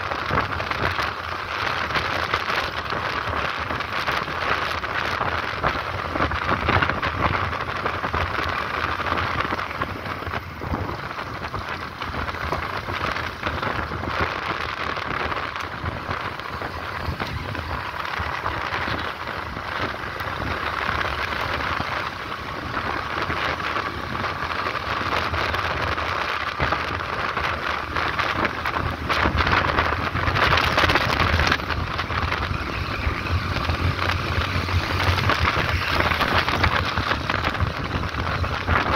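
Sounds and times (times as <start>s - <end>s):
motorcycle engine hum: 0.0s - 38.9s
wind buffeting microphone: 0.0s - 38.9s.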